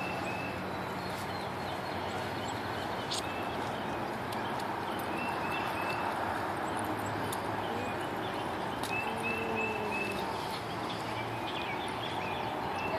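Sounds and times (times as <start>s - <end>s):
outdoor noise: 0.0s - 12.9s.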